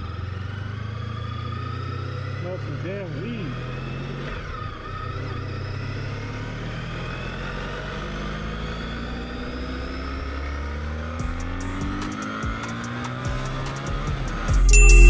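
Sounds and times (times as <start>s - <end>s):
road noise: 0.0s - 14.9s
vehicle accelerating: 0.0s - 15.0s.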